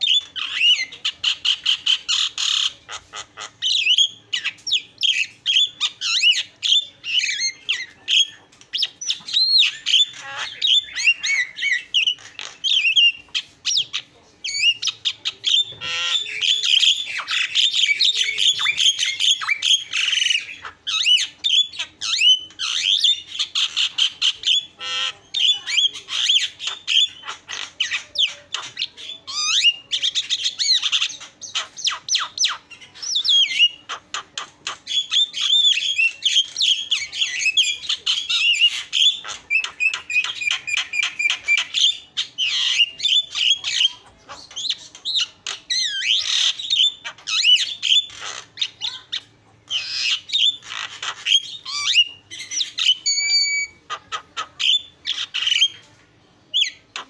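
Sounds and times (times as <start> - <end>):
myna bird singing: 0.0 - 57.0.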